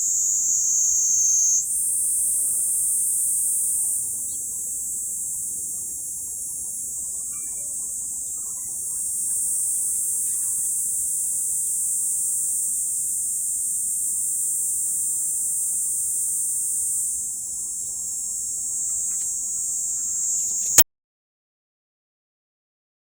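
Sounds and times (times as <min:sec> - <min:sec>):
cicadas buzzing: 0:00.0 - 0:20.8.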